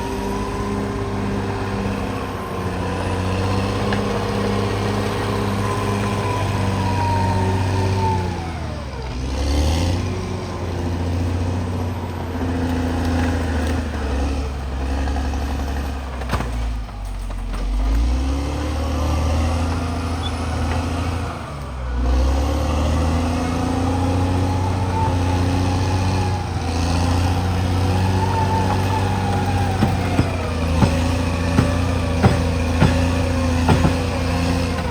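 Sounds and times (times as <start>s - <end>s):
bulldozer diesel engine under load: 0.0s - 34.9s.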